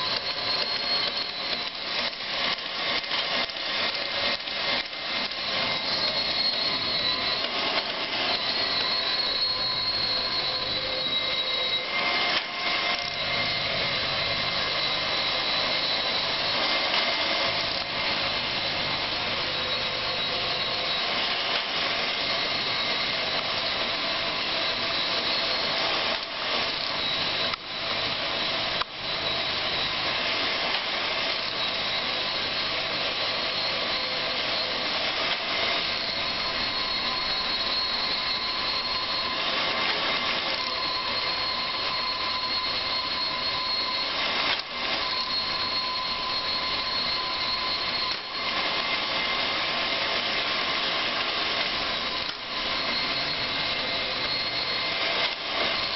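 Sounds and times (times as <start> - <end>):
surface grinder running with whine: 0.0 - 55.9.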